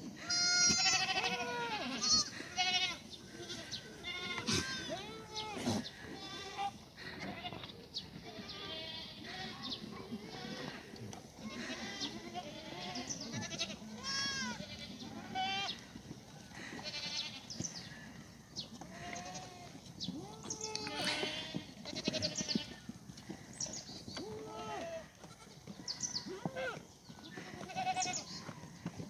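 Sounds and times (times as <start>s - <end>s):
goats bleating: 0.2s - 15.9s, 16.5s - 18.1s, 18.8s - 28.4s.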